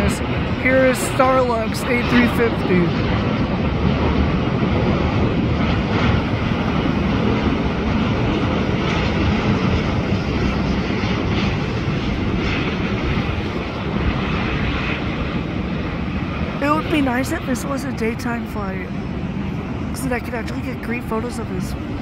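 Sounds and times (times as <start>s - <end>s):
jet plane flying past: 0.0s - 22.0s.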